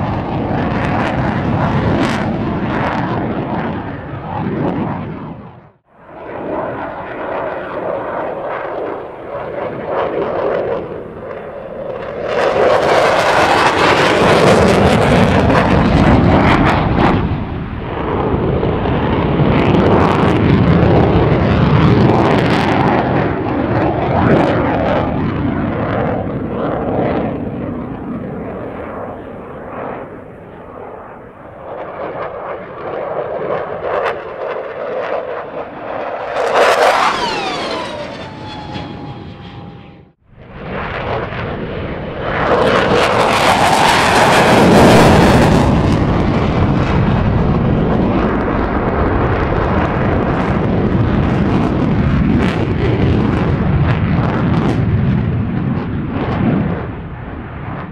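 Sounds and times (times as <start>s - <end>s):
fighter jet roaring overhead: 0.0s - 57.9s.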